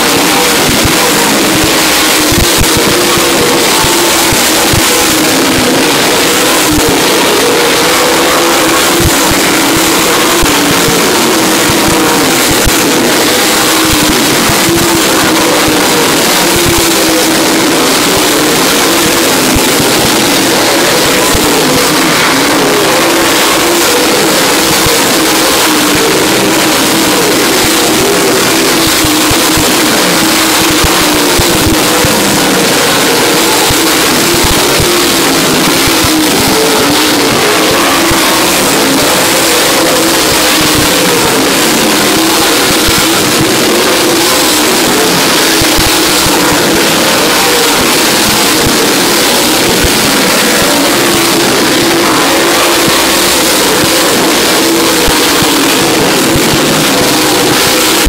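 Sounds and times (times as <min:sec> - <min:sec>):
race car engines roaring: 0:00.0 - 0:58.0.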